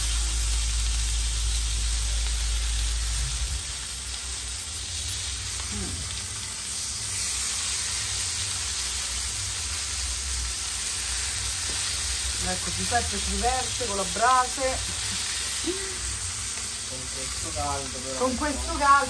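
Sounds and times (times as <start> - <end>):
meat sizzling on grill: 0.0 - 19.0.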